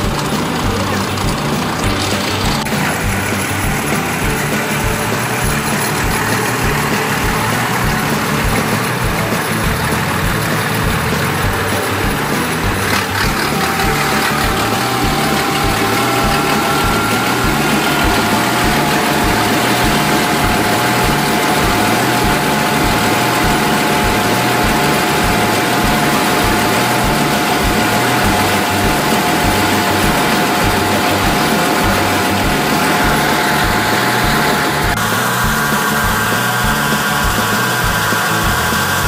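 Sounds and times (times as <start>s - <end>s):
combine harvester engine throb: 0.0s - 39.0s
machinery whine: 0.0s - 39.0s.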